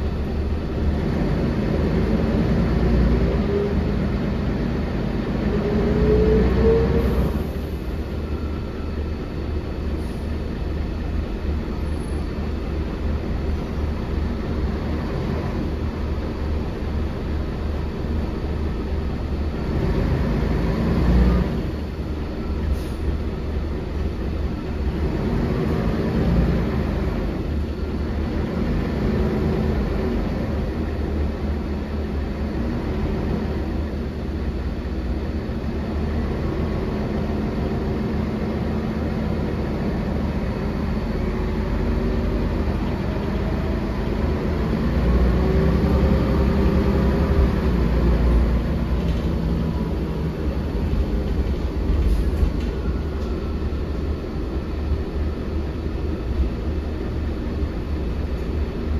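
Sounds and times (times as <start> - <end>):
bus engine running: 0.0 - 58.9
road rumble: 0.0 - 58.9.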